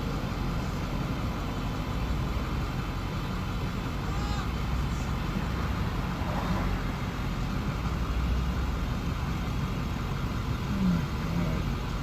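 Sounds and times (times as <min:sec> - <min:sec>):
faint traffic noise: 0:00.0 - 0:12.0
vehicle engine idling: 0:00.0 - 0:12.0.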